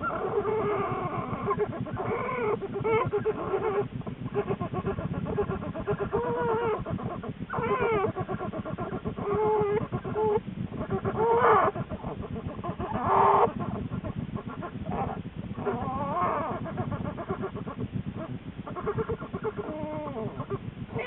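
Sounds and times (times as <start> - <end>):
bear cubs squealing: 0.0 - 21.0
fast low pulsing: 0.0 - 21.0.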